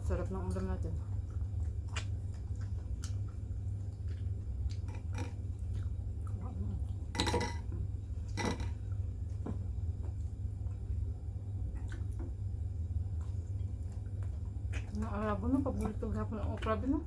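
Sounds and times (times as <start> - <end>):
chewing and eating: 0.0 - 17.0
steady low hum: 0.0 - 17.0.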